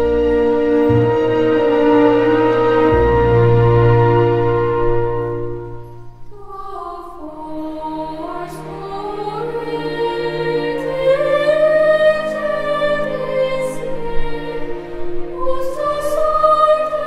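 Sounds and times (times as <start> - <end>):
slow gentle christmas carol: 0.0 - 17.0.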